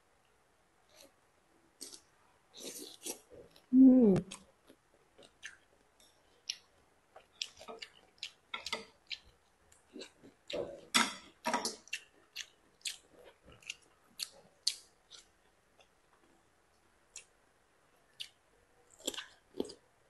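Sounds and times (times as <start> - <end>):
person chewing food: 1.8 - 16.3, 18.0 - 19.9.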